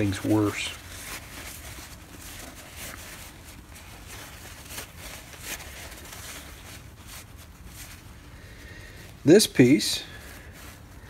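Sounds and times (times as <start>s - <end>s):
paper towel rubbing: 0.0s - 11.0s
soft brushing: 0.0s - 11.0s.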